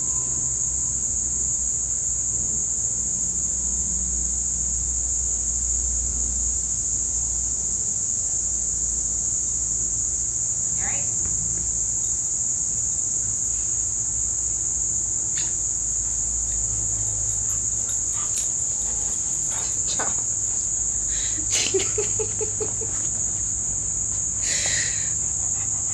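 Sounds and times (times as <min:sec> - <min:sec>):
shrill insect chorus: 0:00.0 - 0:25.9.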